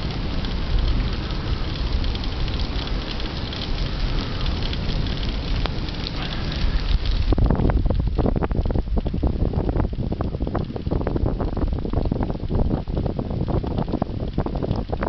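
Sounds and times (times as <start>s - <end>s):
rain pattering: 0.0s - 15.0s
wind rumble on microphone: 0.0s - 15.0s.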